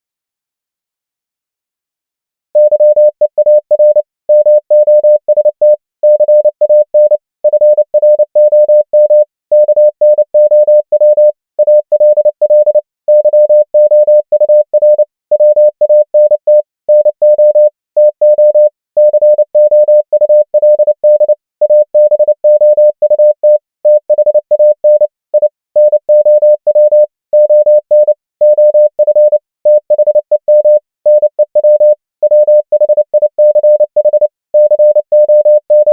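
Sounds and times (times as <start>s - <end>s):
morse code beeps: 2.6s - 35.9s.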